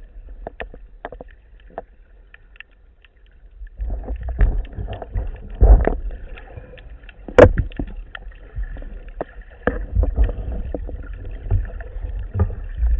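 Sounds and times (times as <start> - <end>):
water sloshing and rumbling: 0.0 - 12.9.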